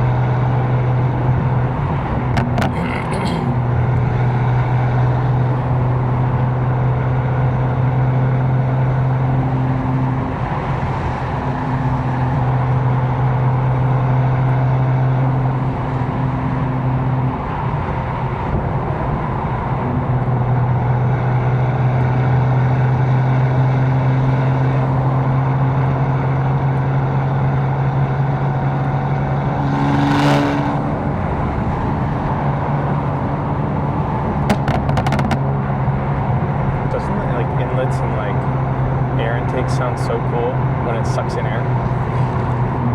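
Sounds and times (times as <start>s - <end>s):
car engine droning: 0.0s - 42.9s.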